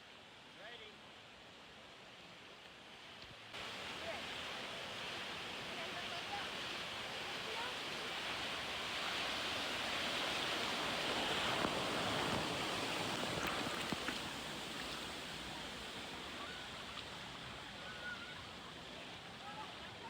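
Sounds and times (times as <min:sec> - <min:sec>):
rushing churning water: 0:03.5 - 0:20.0.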